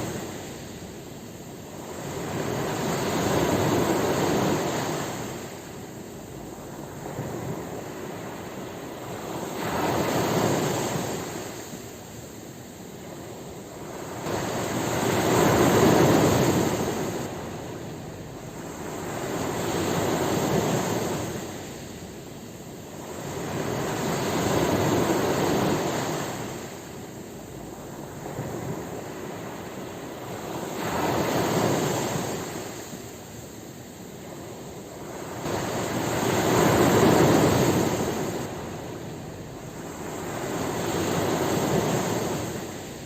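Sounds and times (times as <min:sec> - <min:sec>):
ocean waves breaking on shore: 0:00.0 - 0:43.0.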